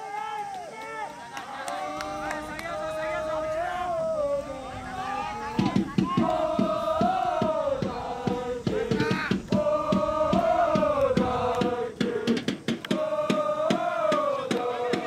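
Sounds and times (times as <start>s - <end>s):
crowd chanting in unison: 1.2s - 15.0s
fast steady beat: 1.4s - 15.0s.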